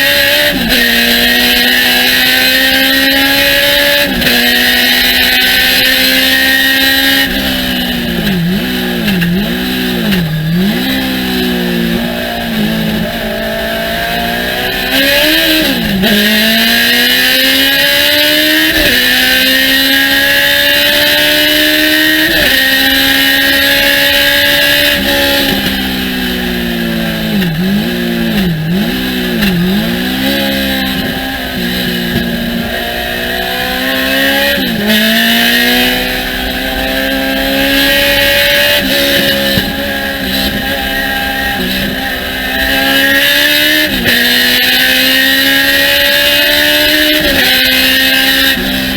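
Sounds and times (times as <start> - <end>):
race car engine revving: 0.0 - 48.9
throttle-blipped downshifts: 0.0 - 48.9.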